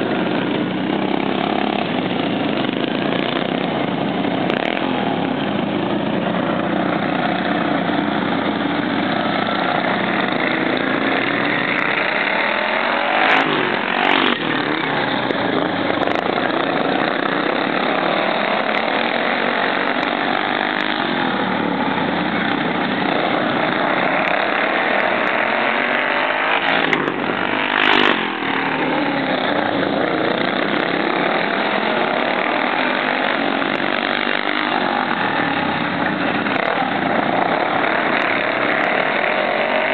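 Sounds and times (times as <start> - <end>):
racing lawn mower engines: 0.0 - 39.9.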